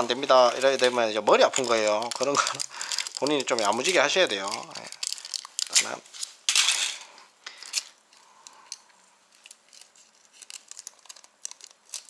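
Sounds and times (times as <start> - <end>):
wires rustling: 0.0 - 12.0.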